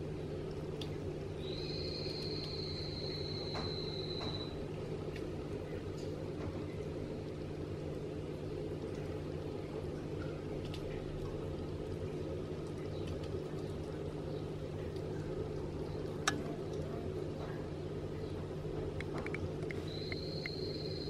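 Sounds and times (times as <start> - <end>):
aquarium filter humming: 0.0 - 21.0.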